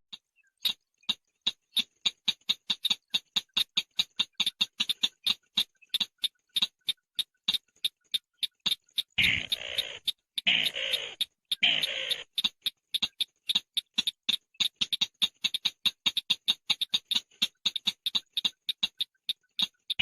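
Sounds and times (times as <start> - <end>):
bird calling with ticking notes: 0.1 - 20.0.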